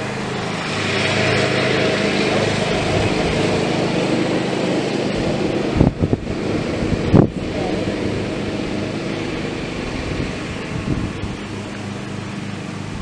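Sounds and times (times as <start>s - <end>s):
engine running steadily: 0.0s - 13.0s
wind hitting microphone: 0.0s - 13.0s.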